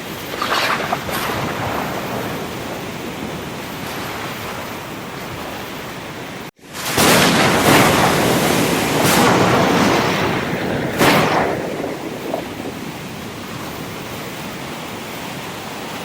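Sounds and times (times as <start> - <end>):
ocean surf washing: 0.0 - 16.0
waves breaking: 0.0 - 16.0.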